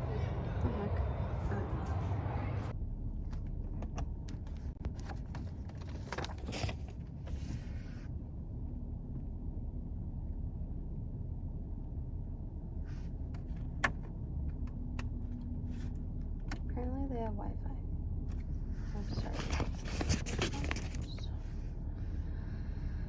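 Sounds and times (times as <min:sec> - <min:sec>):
car interior rumble: 0:00.0 - 0:23.0.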